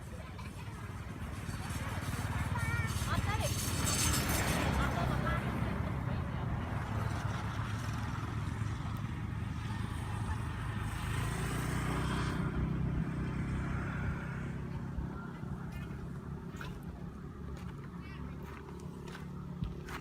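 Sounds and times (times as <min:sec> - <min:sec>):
motor engine running: 0:00.1 - 0:20.0.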